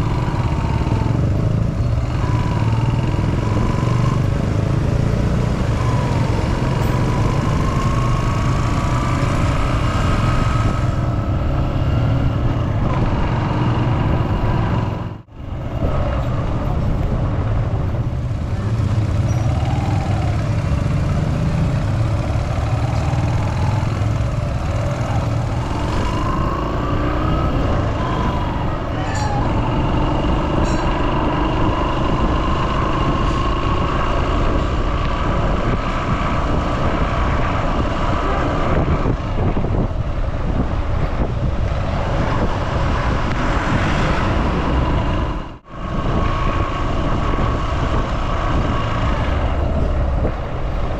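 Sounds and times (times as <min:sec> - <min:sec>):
road traffic engines: 0:00.0 - 0:50.9
tyre and road noise: 0:00.0 - 0:50.9.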